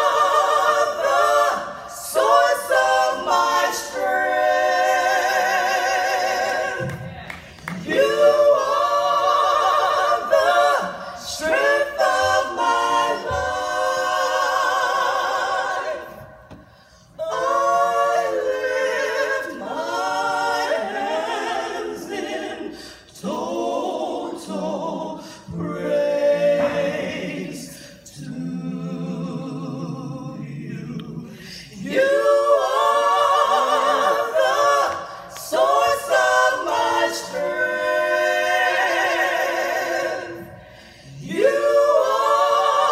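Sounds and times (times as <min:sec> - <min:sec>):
women singing a cappella: 0:00.0 - 0:42.9.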